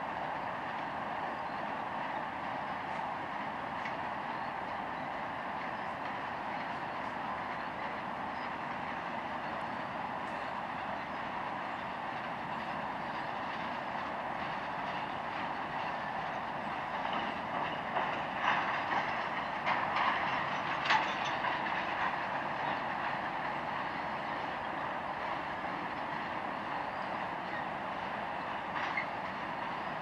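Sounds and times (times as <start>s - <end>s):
freight train wheels rumbling: 0.0s - 30.0s
train clicks and clanks: 0.0s - 30.0s.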